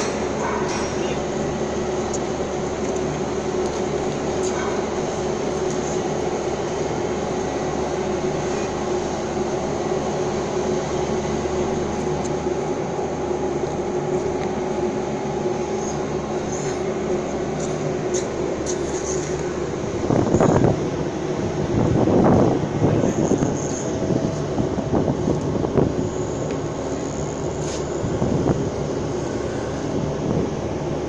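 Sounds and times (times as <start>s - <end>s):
crane diesel engine and hydraulics: 0.0s - 31.0s.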